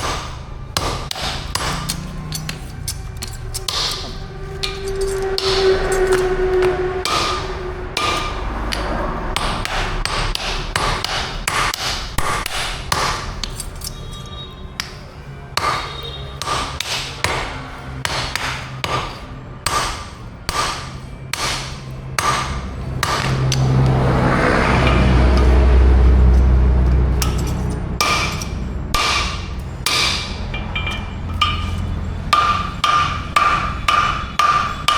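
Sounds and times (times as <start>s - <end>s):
hammer striking steel on anvil: 0.0s - 15.0s, 15.6s - 24.0s, 27.1s - 34.9s.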